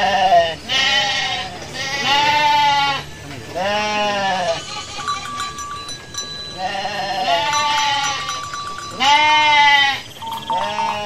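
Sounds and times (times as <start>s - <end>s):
sheep bleating: 0.0s - 5.2s, 6.6s - 8.4s, 9.0s - 11.0s.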